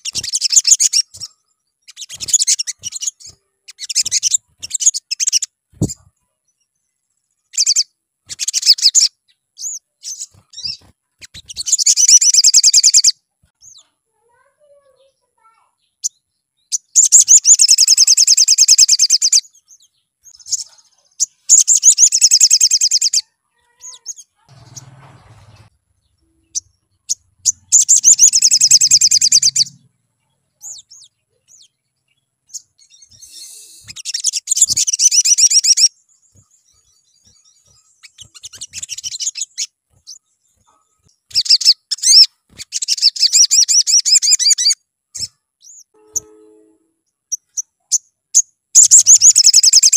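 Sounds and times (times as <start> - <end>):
bird singing trilled phrases: 0.0 - 49.9.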